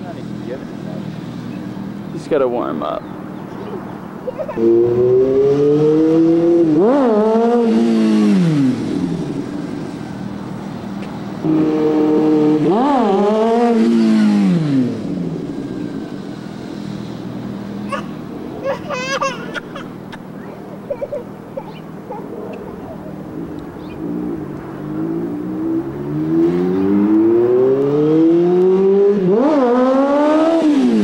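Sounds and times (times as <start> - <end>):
motorcycle engine revving: 0.0 - 18.6, 20.0 - 31.0.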